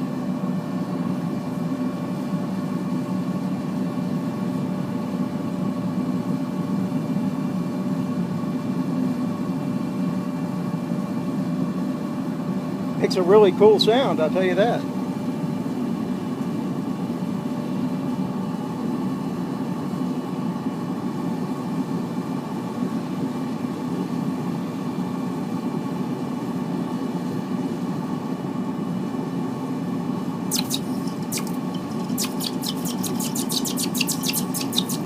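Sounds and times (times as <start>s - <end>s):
propane burner roaring: 0.0s - 35.0s.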